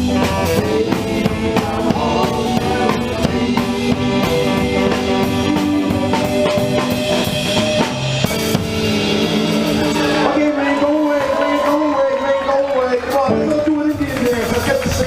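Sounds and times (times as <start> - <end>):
drum kit beat: 0.0 - 12.3, 13.0 - 15.0
electric guitar: 0.0 - 12.5.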